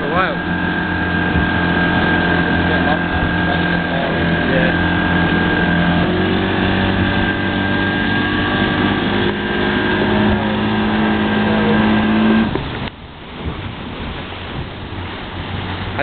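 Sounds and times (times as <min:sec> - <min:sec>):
outboard motor running: 0:00.0 - 0:16.0
rush of boat wake: 0:00.0 - 0:16.0.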